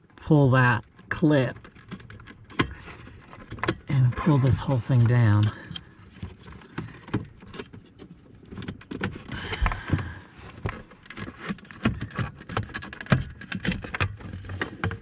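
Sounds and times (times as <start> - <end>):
plastic clicks and scrapes: 0.8 - 15.0.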